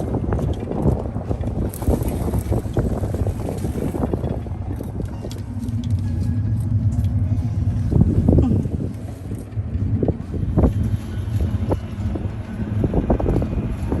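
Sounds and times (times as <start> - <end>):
motorboat engine rumble: 0.0 - 14.0
wind buffeting microphone: 0.0 - 14.0.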